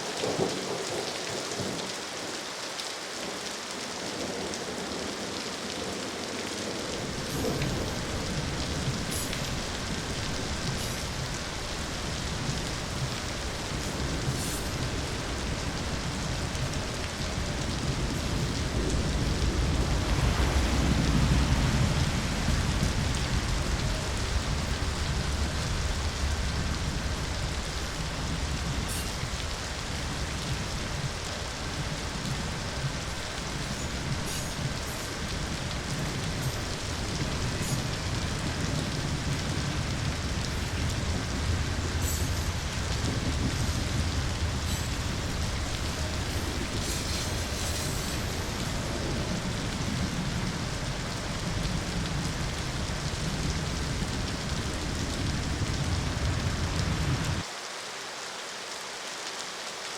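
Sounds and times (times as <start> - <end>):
steady rain falling: 0.0 - 59.9
low rumble: 7.0 - 57.4.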